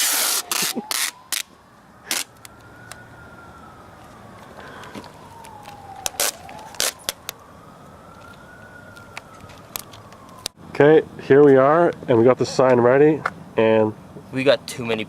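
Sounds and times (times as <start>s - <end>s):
faint wailing siren: 0.0s - 12.7s.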